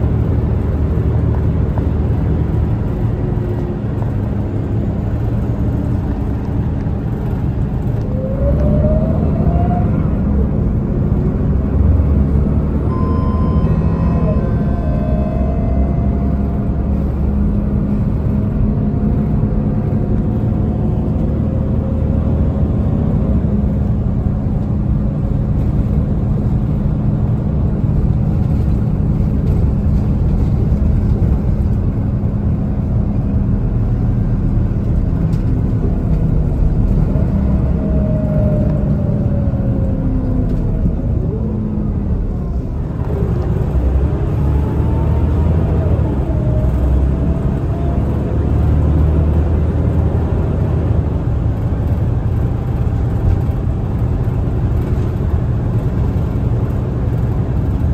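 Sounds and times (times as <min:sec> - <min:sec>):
bus engine drone with whine: 0:00.0 - 0:57.9
road noise: 0:00.0 - 0:57.9.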